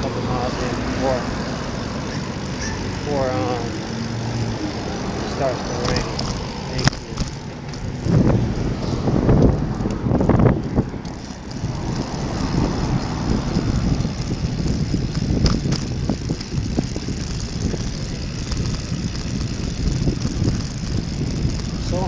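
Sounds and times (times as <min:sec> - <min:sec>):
road rumble: 0:00.0 - 0:22.0
wind rushing on microphone: 0:00.0 - 0:22.0.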